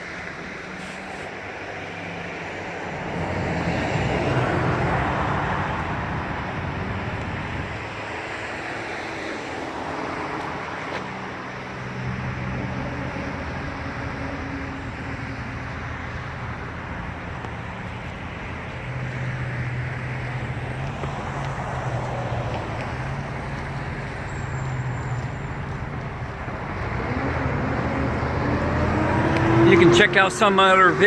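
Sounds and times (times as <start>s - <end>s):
road traffic noise: 0.0s - 31.0s
low engine hum: 0.1s - 31.0s.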